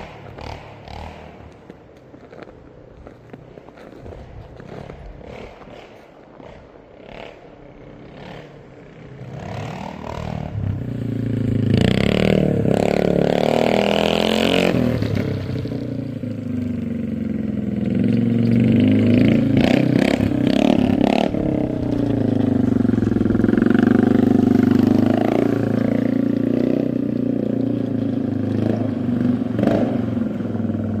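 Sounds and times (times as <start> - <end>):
engine exhaust revving: 0.0 - 2.5, 3.7 - 31.0.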